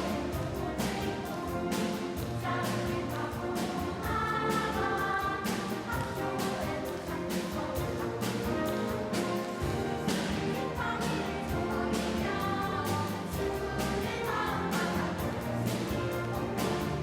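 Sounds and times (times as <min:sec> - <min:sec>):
children's choir singing: 0:00.0 - 0:17.0
orchestral accompaniment: 0:00.0 - 0:17.0.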